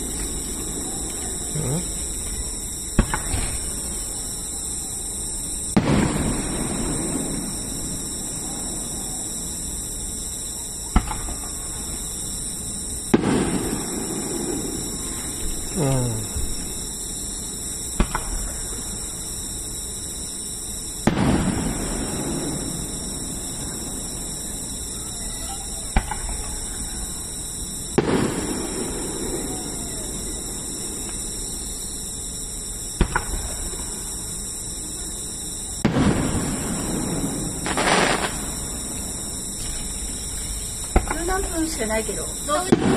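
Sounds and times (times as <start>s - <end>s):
fireworks bang: 0.0s - 19.5s, 20.8s - 42.9s
steady hiss: 0.0s - 42.9s.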